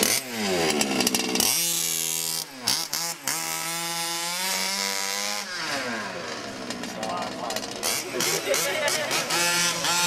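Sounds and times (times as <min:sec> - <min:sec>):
rc car motor buzzing: 0:00.0 - 0:10.0.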